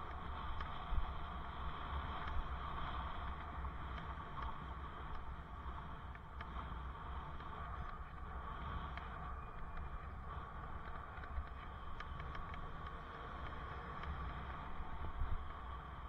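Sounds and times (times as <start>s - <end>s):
bicycle tyre and road noise: 0.0s - 16.0s
wind rush on microphone: 0.0s - 16.0s.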